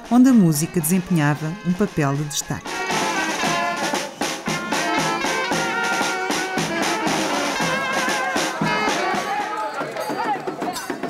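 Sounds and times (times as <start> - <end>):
brass instruments playing melody: 0.0 - 9.8
drums: 0.0 - 11.0.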